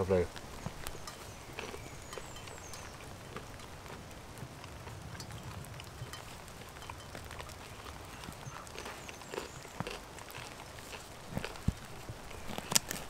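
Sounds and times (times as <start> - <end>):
rain hissing: 0.0 - 13.0
raindrops ticking: 0.0 - 13.0.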